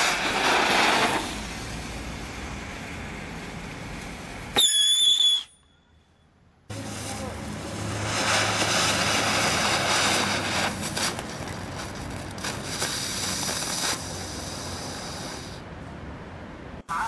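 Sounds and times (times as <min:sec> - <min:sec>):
firework crackles: 0:00.0 - 0:05.4, 0:06.7 - 0:15.7
firework hissing: 0:00.0 - 0:05.4, 0:06.7 - 0:15.7.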